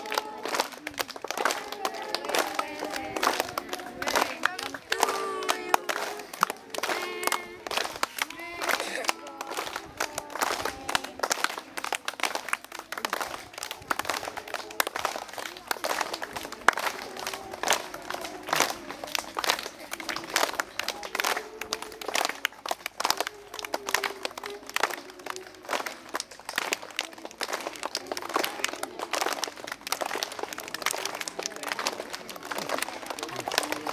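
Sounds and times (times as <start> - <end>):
children clapping: 0.0 - 33.9
faint voices: 0.0 - 33.9.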